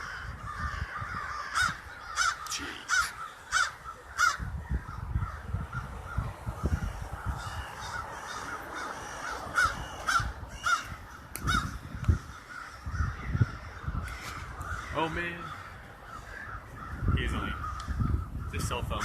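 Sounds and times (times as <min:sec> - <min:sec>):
close crow caws: 0:00.0 - 0:19.0
flock of crows cawing: 0:00.0 - 0:19.0.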